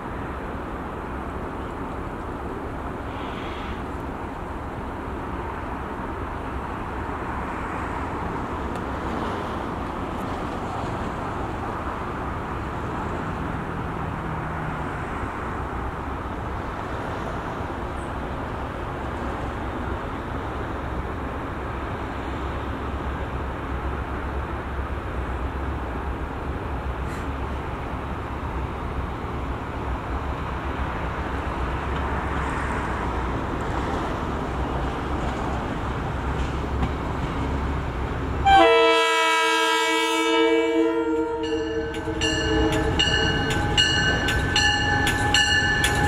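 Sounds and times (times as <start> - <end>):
diesel train approaching: 0.0 - 46.0
road traffic rumble: 0.0 - 46.0
wind: 0.0 - 46.0.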